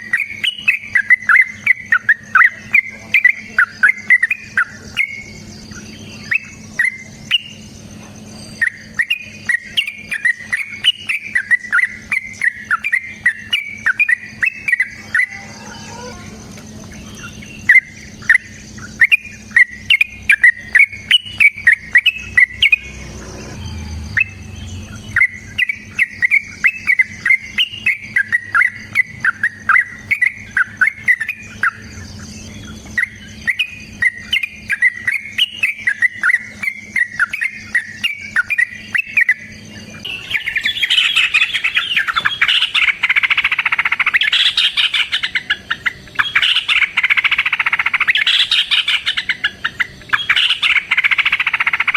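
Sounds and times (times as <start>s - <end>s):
bulbul chirping and chattering: 0.0s - 51.9s.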